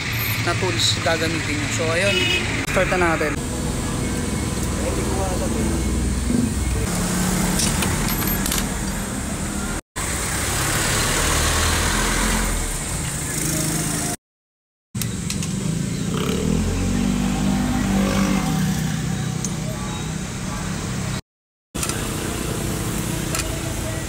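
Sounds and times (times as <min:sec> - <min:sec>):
motor vehicle engines running: 0:00.0 - 0:14.2, 0:15.0 - 0:21.2, 0:21.8 - 0:24.0.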